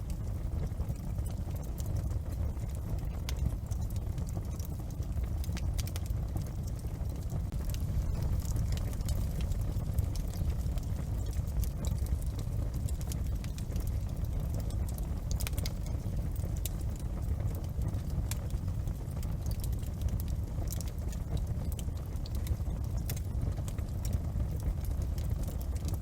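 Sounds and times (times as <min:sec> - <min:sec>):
fire crackling and popping: 0:00.0 - 0:26.0
low fire rumble: 0:00.0 - 0:26.0.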